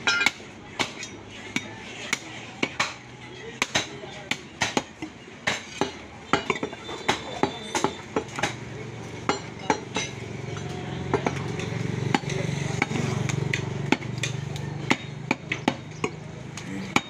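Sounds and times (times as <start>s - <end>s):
cleaver chopping meat on wood: 0.2s - 3.0s, 3.6s - 10.1s, 12.1s - 17.0s.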